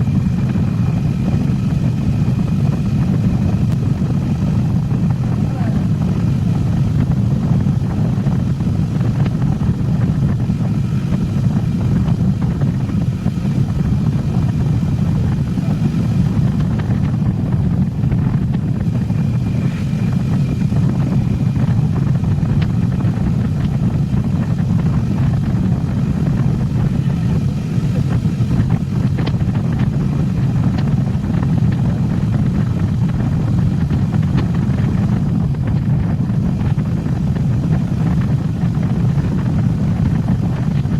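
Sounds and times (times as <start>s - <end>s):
motorcycle engine rumble: 0.0s - 40.9s
wind noise: 0.0s - 40.9s.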